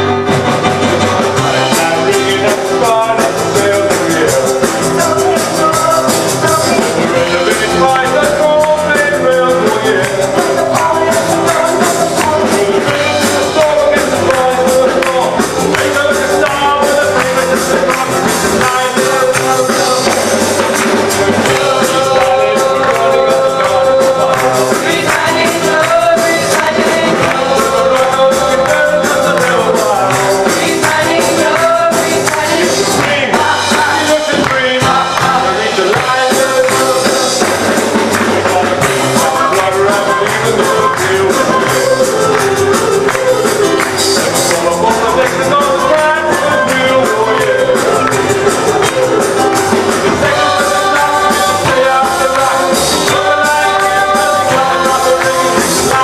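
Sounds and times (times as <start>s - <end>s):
group singing: 0.0s - 56.0s
rock and roll song: 0.0s - 56.0s.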